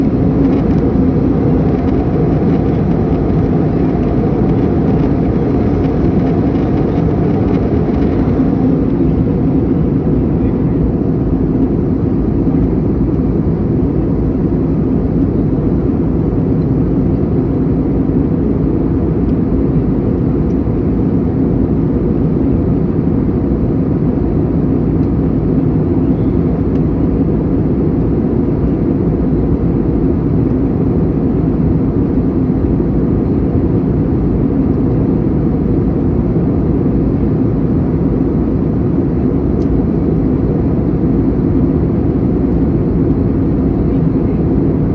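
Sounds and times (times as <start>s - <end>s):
airliner cabin noise: 0.0s - 44.9s
faint hum: 0.0s - 44.9s.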